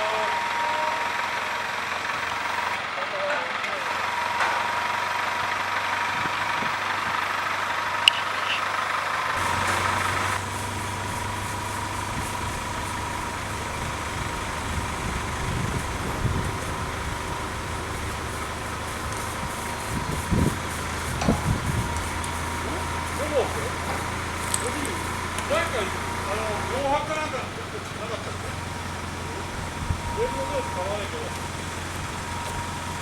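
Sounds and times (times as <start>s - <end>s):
crane engine running: 0.0s - 33.0s.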